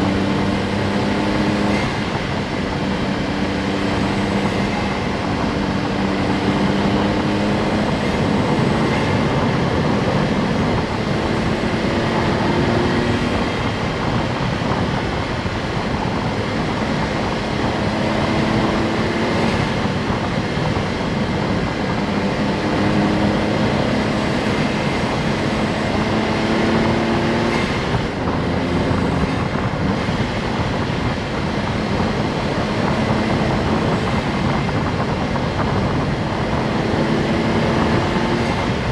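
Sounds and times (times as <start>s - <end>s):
car engine accelerating through gears: 0.0s - 38.9s
road and tyre noise: 0.0s - 38.9s.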